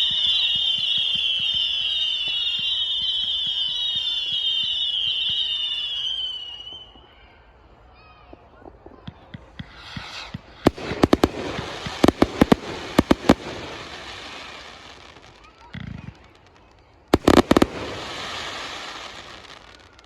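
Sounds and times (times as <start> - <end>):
fireworks bangs and crackling: 0.0 - 7.0, 8.3 - 20.0.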